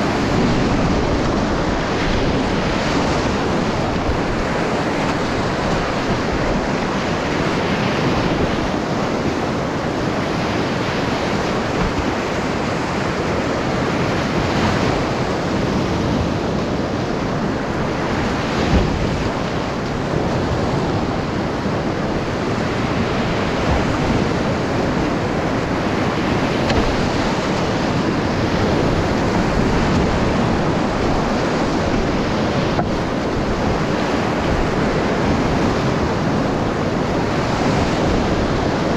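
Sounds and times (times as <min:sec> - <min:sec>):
kayak bow splashing through waves: 0:00.0 - 0:38.9
whitewater rushing: 0:00.0 - 0:38.9.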